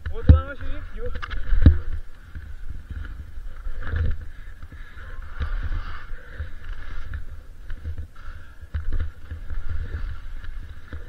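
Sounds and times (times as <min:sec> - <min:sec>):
skis sliding through snow: 0:00.5 - 0:11.0.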